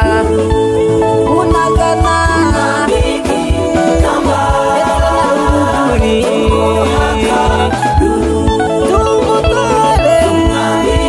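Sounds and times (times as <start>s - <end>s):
person singing: 0.0s - 11.0s
steady beat: 1.7s - 11.0s.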